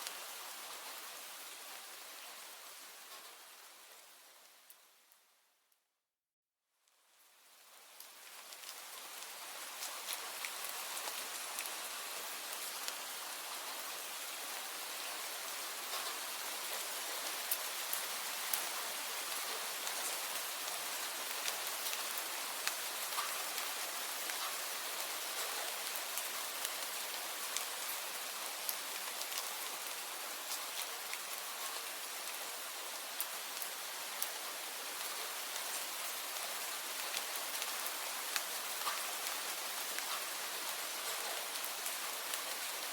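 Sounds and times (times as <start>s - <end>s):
steady rain: 0.0s - 5.7s, 6.8s - 42.9s.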